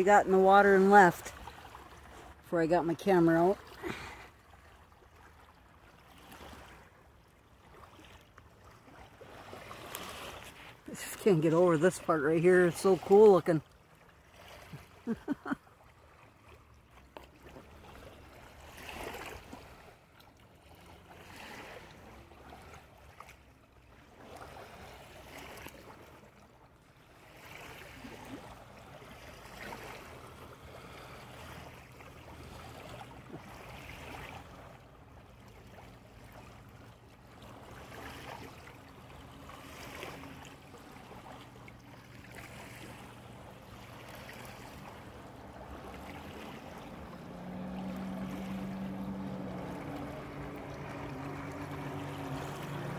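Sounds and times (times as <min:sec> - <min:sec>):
distant motorboat hum: 0:00.0 - 0:52.9
small waves lapping at shore: 0:00.0 - 0:52.9.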